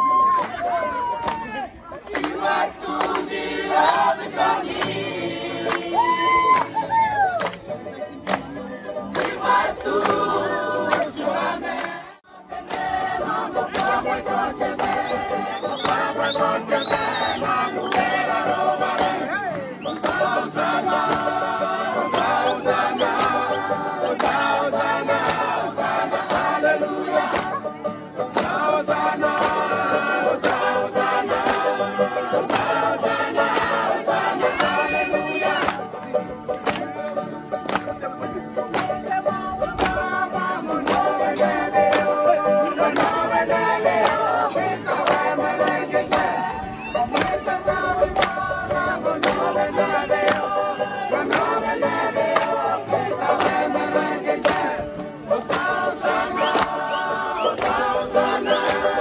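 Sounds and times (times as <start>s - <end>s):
choir singing in harmony: 2.1s - 6.4s, 9.1s - 35.9s, 40.0s - 59.0s.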